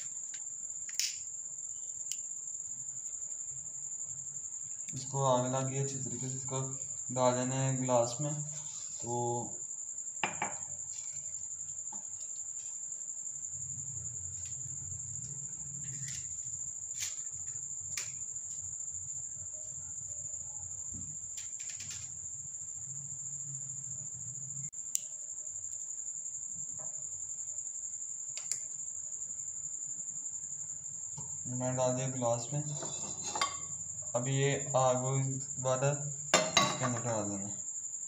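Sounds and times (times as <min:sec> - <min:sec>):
cricket chirring: 0:00.0 - 0:38.0.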